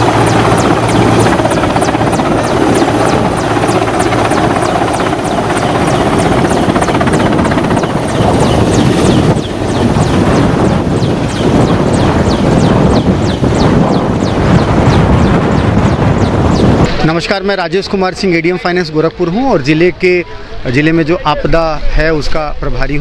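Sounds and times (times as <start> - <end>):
helicopter flying low overhead: 0.0 - 22.8.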